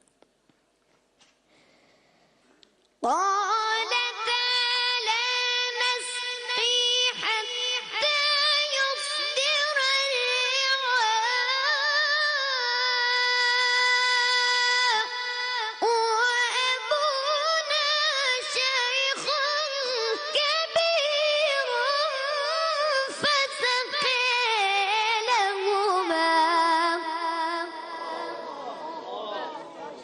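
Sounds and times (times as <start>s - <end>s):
boy chanting melodically: 3.0s - 30.0s.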